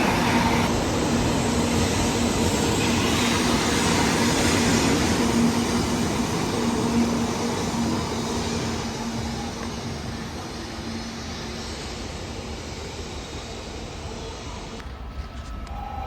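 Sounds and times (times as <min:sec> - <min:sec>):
high-speed train rushing: 0:00.0 - 0:16.0.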